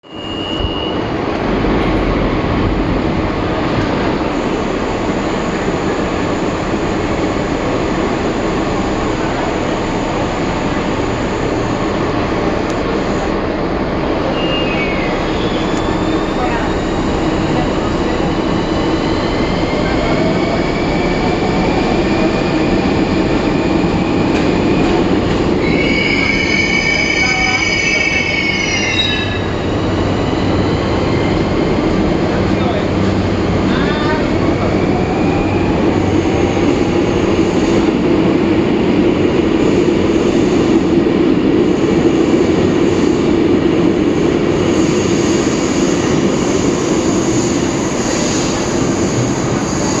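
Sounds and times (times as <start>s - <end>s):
train rumble: 0.6s - 50.0s.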